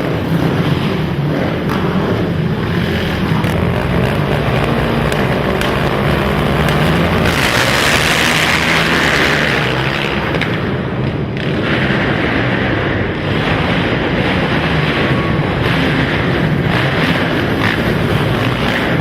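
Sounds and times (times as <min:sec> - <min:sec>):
quad engines running hard: 0:00.0 - 0:19.0.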